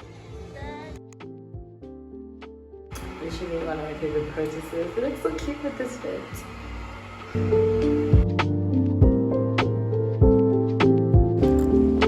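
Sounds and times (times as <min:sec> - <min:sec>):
keyboard-led pop music: 0:00.6 - 0:06.2, 0:07.4 - 0:12.0.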